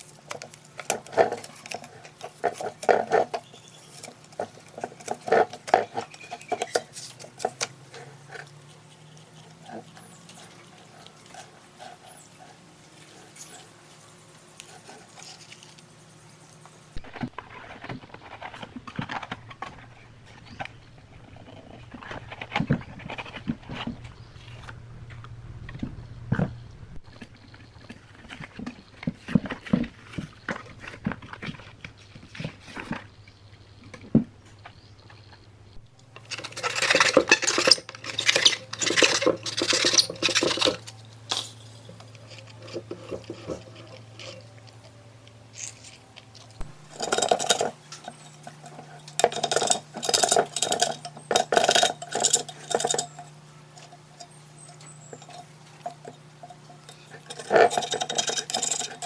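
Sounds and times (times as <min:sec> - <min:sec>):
scraping and clattering parts: 0:00.0 - 0:12.4, 0:17.0 - 0:33.2, 0:36.1 - 0:59.0
faint low hum: 0:00.0 - 0:59.0.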